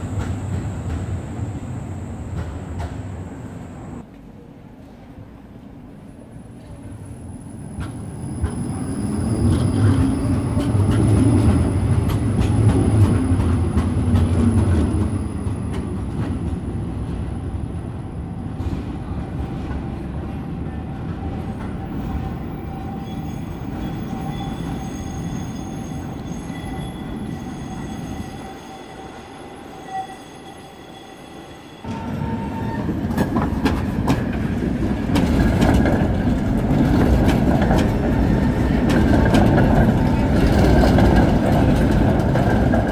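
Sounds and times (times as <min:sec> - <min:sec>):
tram wheels rumbling and clicking: 0:00.0 - 0:28.3, 0:31.8 - 0:42.9.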